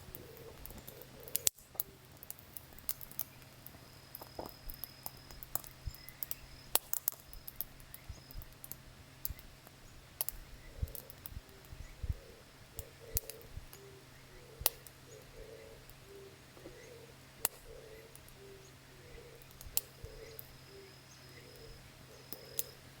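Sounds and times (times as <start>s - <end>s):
campfire crackling and popping: 0.0s - 18.5s, 19.2s - 23.0s.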